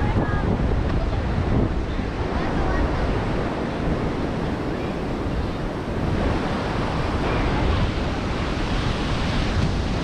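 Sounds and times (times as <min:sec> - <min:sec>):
surf breaking on beach: 0:00.0 - 0:10.0.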